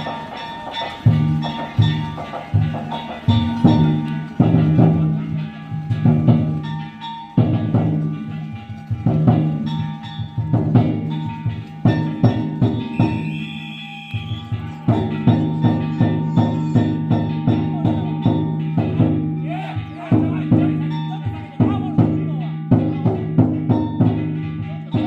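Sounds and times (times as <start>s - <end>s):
hand gongs clanging: 0.0s - 25.0s
taiko drum beating: 0.0s - 25.0s.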